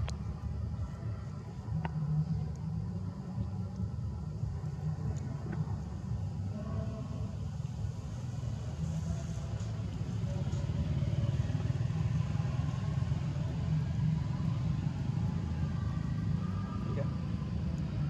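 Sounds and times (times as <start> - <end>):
faint indistinct higher sounds: 0.0 - 18.0
low outdoor rumble: 0.0 - 18.0.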